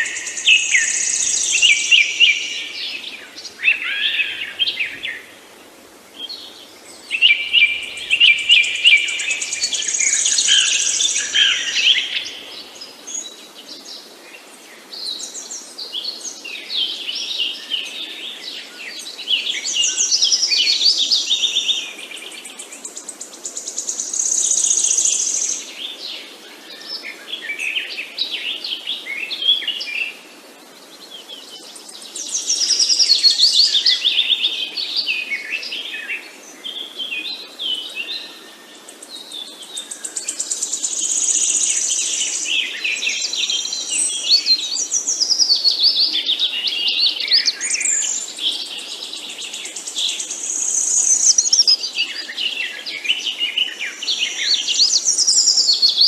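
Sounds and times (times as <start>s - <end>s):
faint steady hiss: 0.0s - 56.0s
songbirds singing and chirping: 0.0s - 56.0s.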